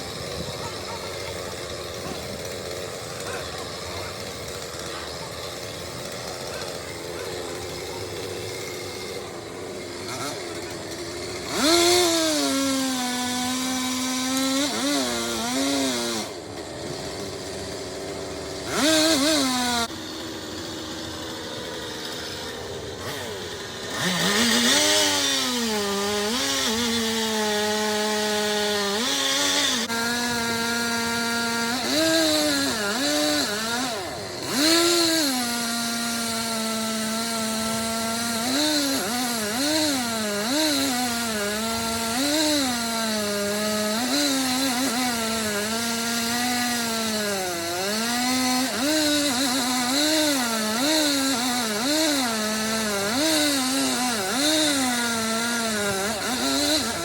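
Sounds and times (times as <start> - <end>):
chainsaw revving and cutting wood: 0.0 - 57.0.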